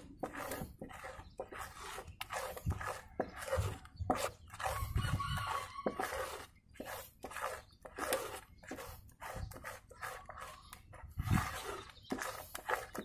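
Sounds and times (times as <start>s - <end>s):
spatula squelching in dough: 0.0s - 13.0s.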